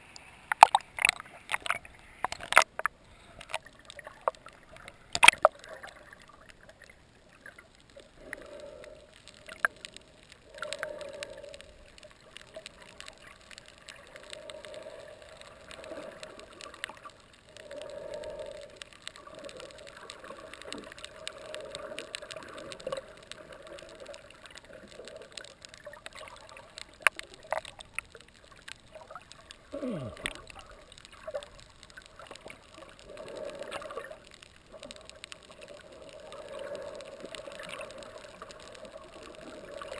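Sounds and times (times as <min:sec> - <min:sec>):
sharp underwater clicks: 0:00.1 - 0:39.9.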